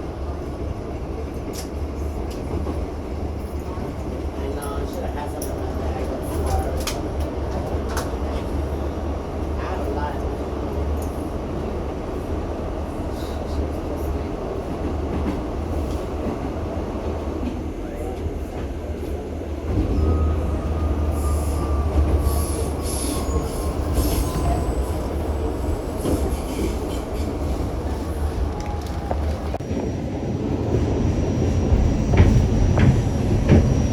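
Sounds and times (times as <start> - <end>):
subway train rumbling on rails: 0.0 - 33.9.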